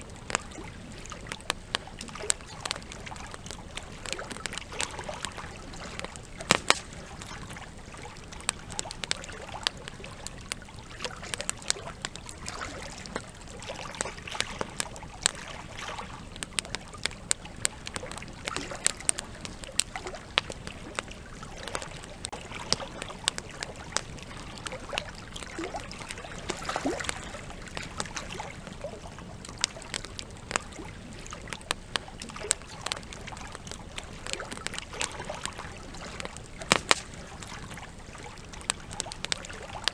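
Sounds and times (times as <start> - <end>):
campfire crackling and popping: 0.0 - 39.9
flowing river: 0.0 - 39.9.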